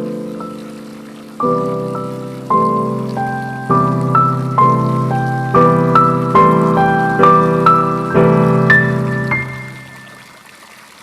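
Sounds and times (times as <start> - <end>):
gentle piano music: 0.0 - 10.4
running water trickling: 0.0 - 11.0.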